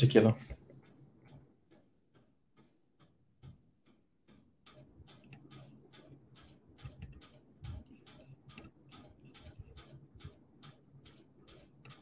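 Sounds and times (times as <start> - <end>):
faint rapid clicking: 0.0 - 12.0.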